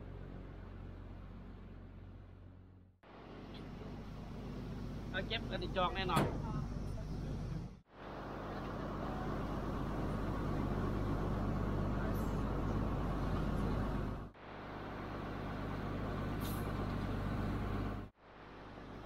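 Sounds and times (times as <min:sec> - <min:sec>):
boat engine droning: 0:00.0 - 0:18.1.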